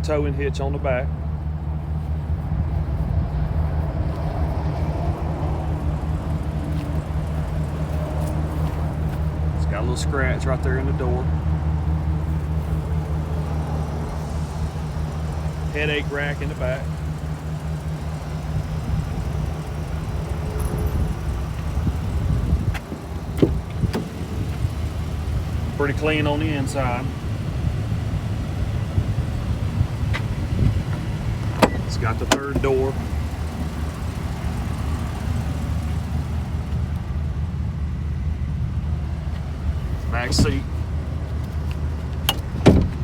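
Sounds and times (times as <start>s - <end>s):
truck engine idling: 0.0s - 43.0s.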